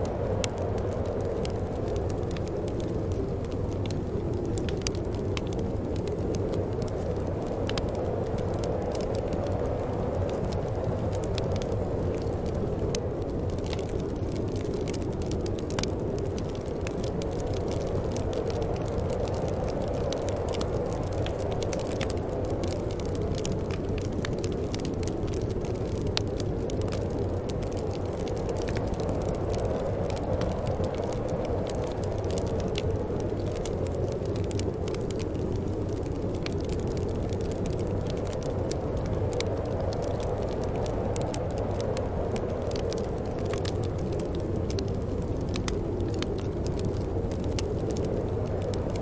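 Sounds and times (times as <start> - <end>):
fire crackling: 0.0 - 49.0
low wind rumble: 0.0 - 49.0.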